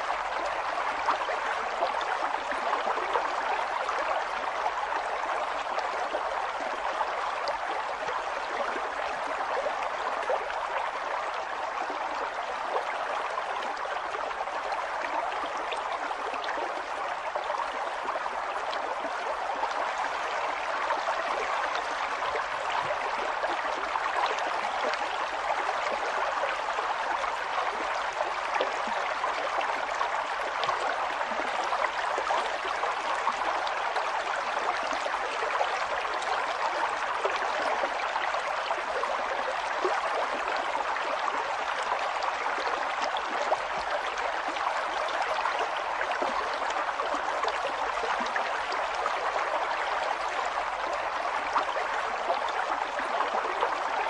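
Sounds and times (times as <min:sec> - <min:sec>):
river water babbling over rocks: 0:00.0 - 0:54.0.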